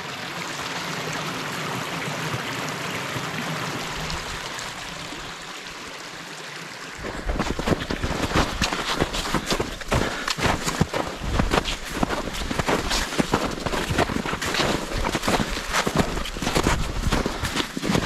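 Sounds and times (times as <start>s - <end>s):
creek running over rocks: 0.0s - 18.0s.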